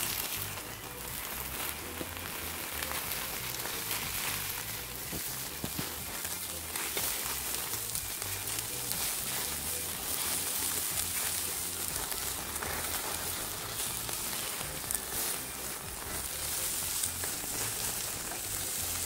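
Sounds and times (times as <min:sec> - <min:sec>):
burgers sizzling on a grill: 0:00.0 - 0:19.0
fat crackling on coals: 0:00.0 - 0:19.0.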